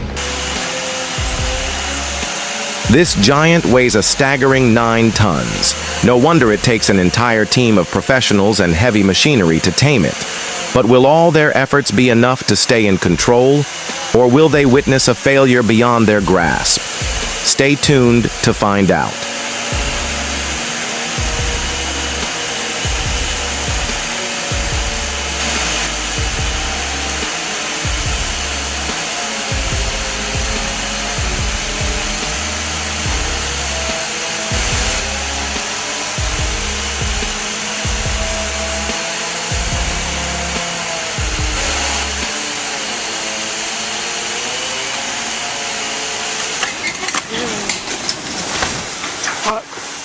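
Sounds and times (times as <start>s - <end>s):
music with deep bass: 0.0s - 11.0s, 12.9s - 43.5s
loud rushing noise: 0.0s - 49.2s
machine running under load: 0.0s - 50.0s.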